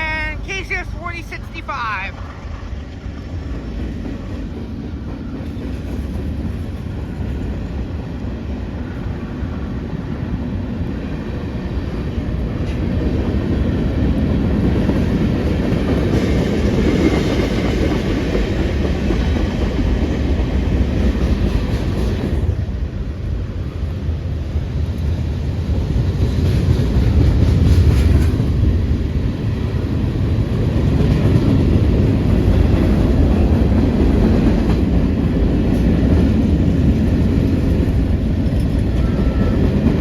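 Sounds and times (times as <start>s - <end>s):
train wheels rumbling on rails: 1.8s - 40.0s.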